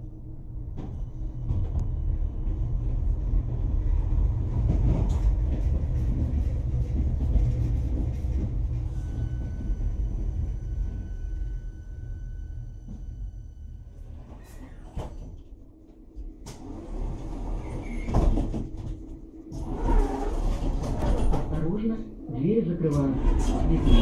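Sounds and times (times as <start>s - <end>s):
tram rumbling on rails: 0.0s - 24.0s.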